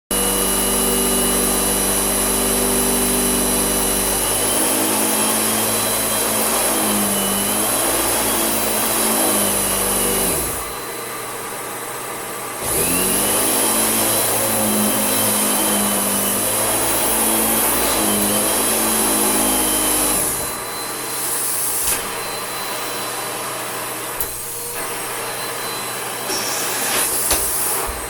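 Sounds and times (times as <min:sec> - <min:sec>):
vacuum cleaner running: 0:00.1 - 0:28.0.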